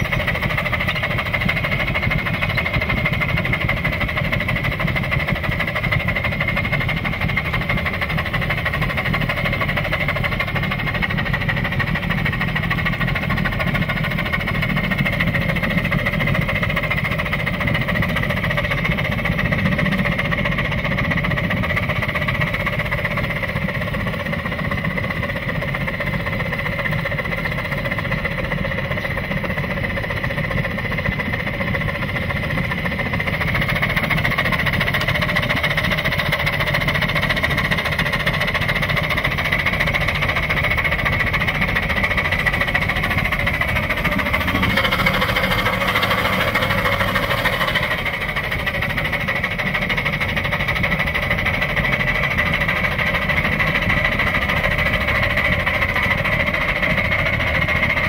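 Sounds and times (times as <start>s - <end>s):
steam locomotive exhaust barking: 0.0s - 58.0s.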